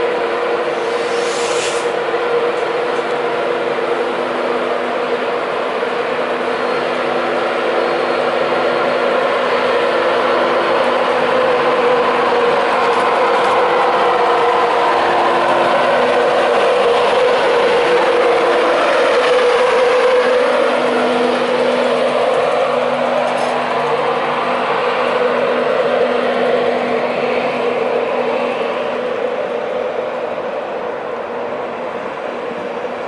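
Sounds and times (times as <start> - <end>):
electric locomotive humming: 0.0 - 33.0
wheel and rail noise: 0.0 - 33.0.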